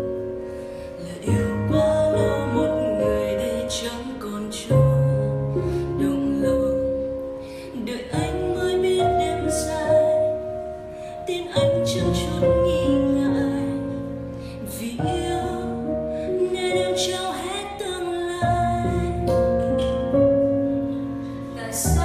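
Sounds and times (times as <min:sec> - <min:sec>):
woman singing: 0:00.8 - 0:22.0.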